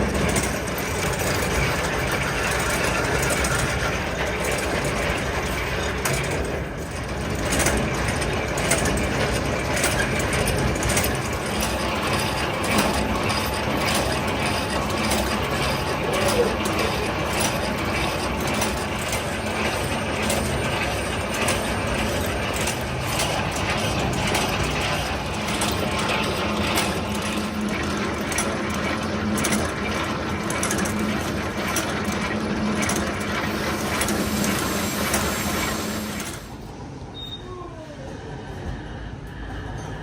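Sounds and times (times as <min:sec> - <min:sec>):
machinery clattering: 0:00.0 - 0:37.0
low machine hum: 0:00.0 - 0:40.0.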